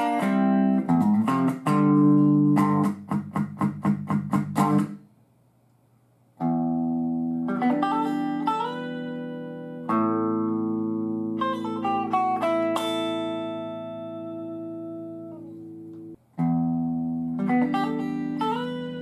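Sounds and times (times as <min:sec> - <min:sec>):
electric guitar chords: 0:00.0 - 0:05.0, 0:06.4 - 0:19.0.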